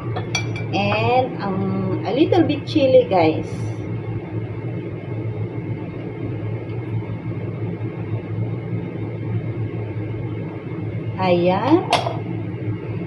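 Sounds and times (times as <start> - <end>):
low mechanical hum with rumble: 0.0 - 13.0.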